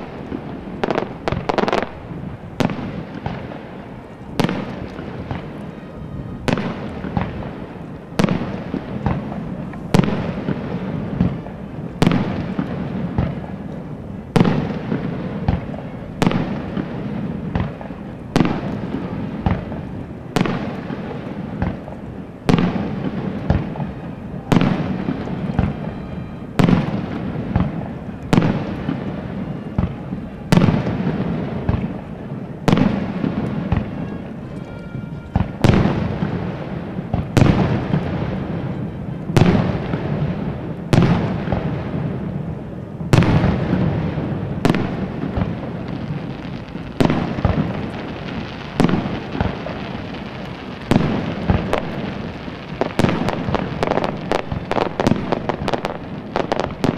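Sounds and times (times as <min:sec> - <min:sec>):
fireworks bangs: 0:00.0 - 0:56.9
fireworks crackling: 0:00.0 - 0:56.9.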